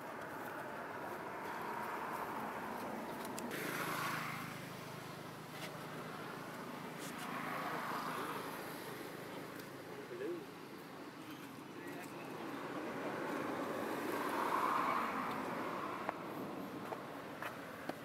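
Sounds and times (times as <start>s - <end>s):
distant vehicles passing: 0.0s - 18.0s.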